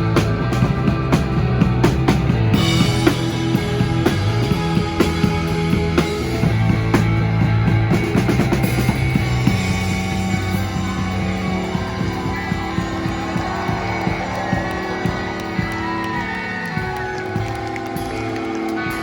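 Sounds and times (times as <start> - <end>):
drum kit pounding: 0.0 - 19.0
rock band playing: 0.0 - 19.0.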